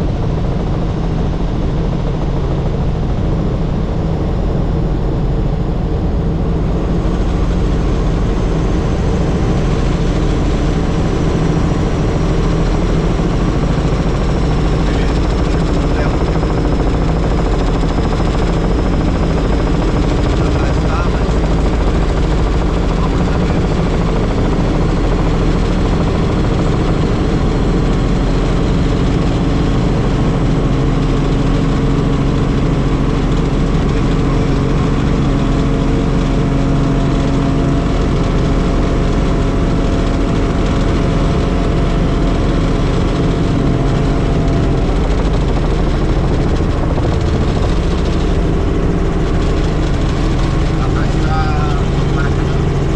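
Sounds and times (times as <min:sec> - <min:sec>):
helicopter rotor drone: 0:00.0 - 0:52.9.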